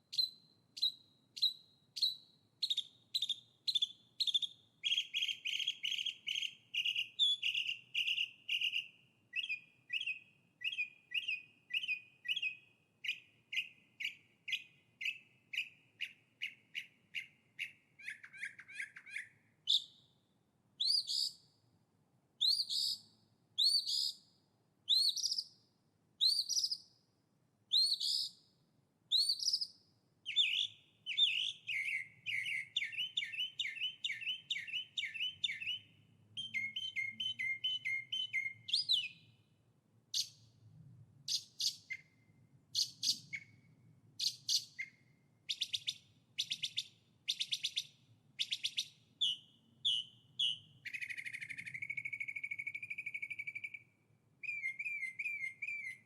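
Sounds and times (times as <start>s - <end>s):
songbird singing repeated notes: 0.0s - 21.7s, 22.4s - 56.0s.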